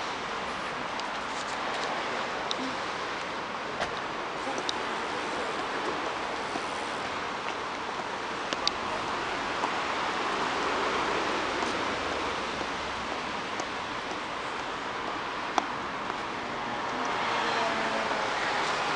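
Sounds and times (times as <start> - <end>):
road traffic: 0.0 - 18.9.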